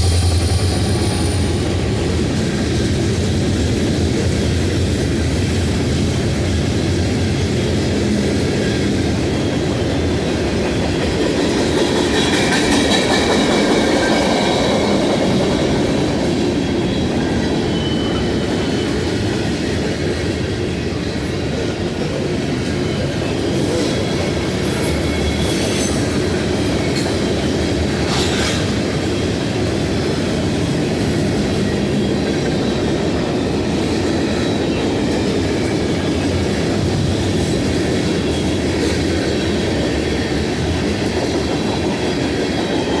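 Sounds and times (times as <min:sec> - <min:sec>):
clickety-clack of rail joints: 0:00.0 - 0:43.0
train wheels rumbling on rails: 0:00.0 - 0:43.0.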